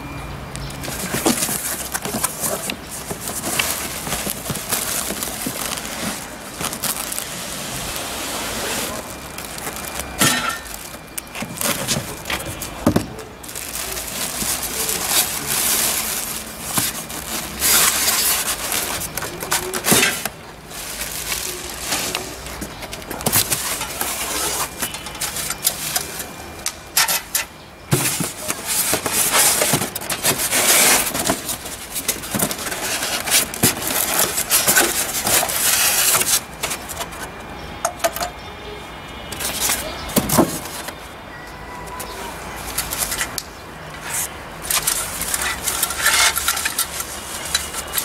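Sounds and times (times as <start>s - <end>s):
plastic wrapping crinkling: 0.6s - 37.5s, 41.9s - 48.0s
foam blocks rustling and rubbing: 0.8s - 37.4s, 42.0s - 48.0s.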